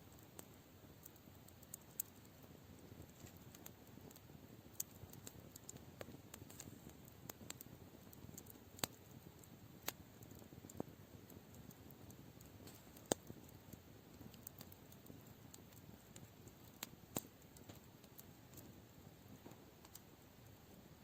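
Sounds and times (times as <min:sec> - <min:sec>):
campfire crackling: 0:00.0 - 0:21.0
low steady hiss: 0:00.0 - 0:21.0.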